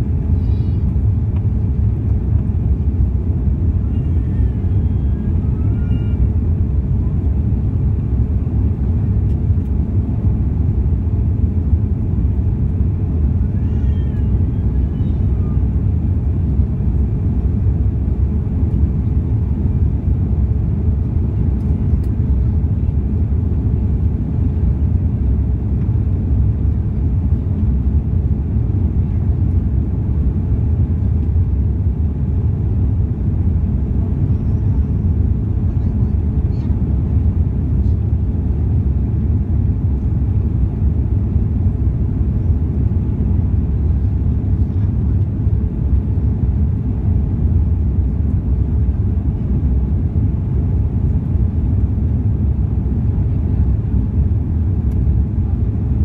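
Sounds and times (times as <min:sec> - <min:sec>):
airliner cabin roar: 0:00.0 - 0:56.0.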